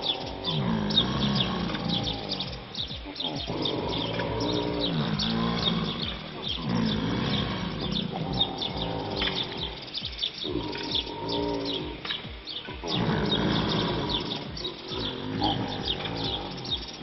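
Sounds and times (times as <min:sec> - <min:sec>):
alligators bellowing: 0:00.0 - 0:17.0
birds chirping: 0:00.0 - 0:17.0.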